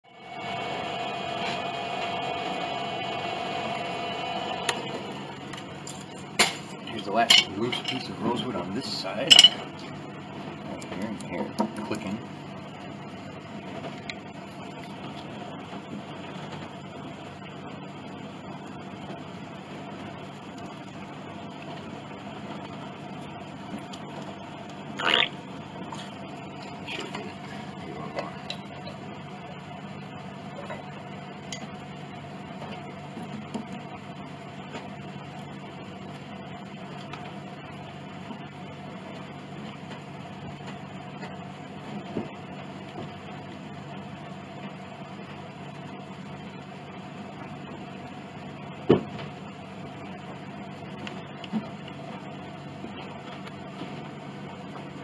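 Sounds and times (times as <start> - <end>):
low workshop hum: 0.0 - 55.0.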